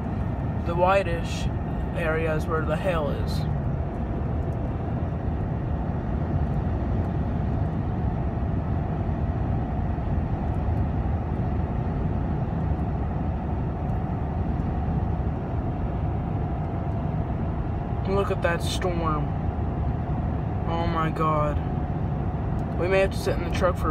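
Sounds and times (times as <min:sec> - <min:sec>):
road and engine noise in cabin: 0:00.0 - 0:23.9.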